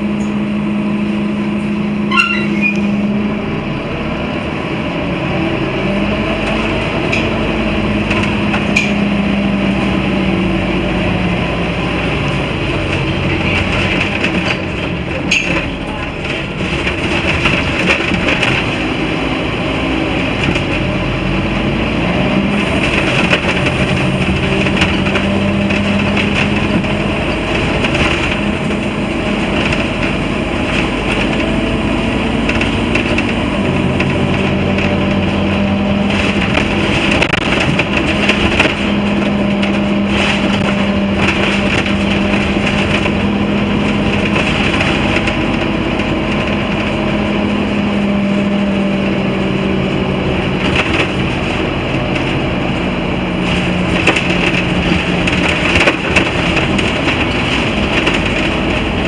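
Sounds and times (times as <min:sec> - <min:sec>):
bus diesel engine humming: 0:00.0 - 0:59.0
road noise: 0:00.0 - 0:59.0.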